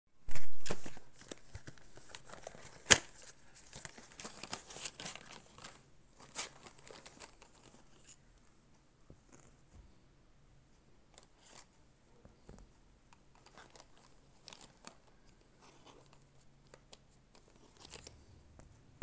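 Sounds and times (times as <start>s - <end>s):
rustling and crinkling: 0.2s - 10.0s, 11.1s - 19.0s.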